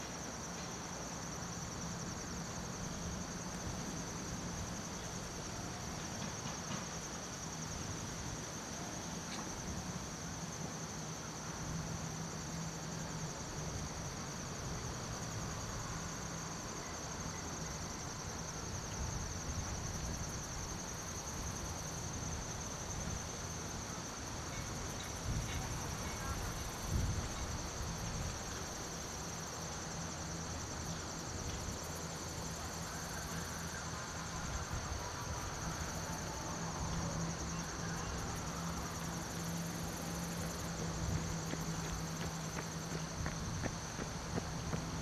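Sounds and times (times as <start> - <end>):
insects trilling: 0.0 - 45.0.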